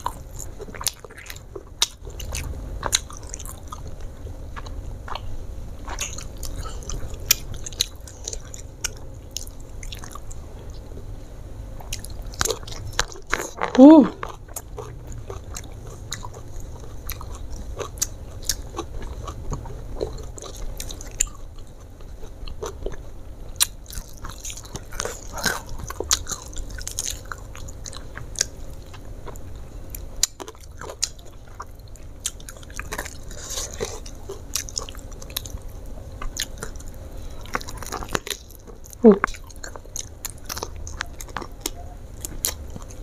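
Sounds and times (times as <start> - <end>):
person chewing and lip-smacking: 0.0 - 10.8, 11.8 - 43.0.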